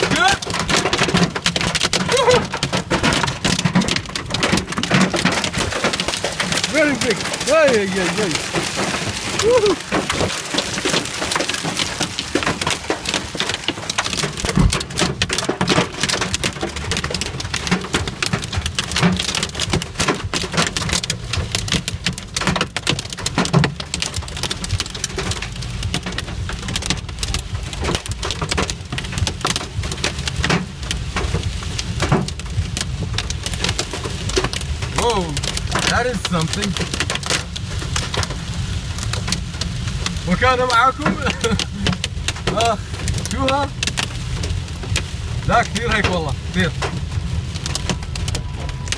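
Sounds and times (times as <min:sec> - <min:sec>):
hailstones pelting a car: 0:00.0 - 0:48.9.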